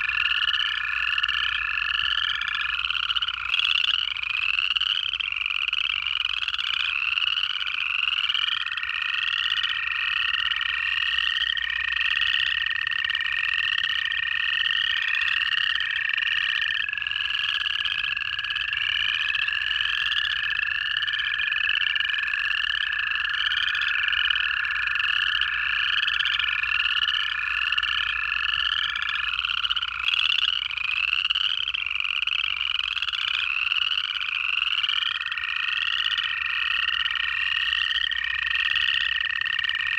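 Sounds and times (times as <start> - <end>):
frogs trilling in chorus: 0.0 - 39.9
toads long even trill: 0.0 - 39.9.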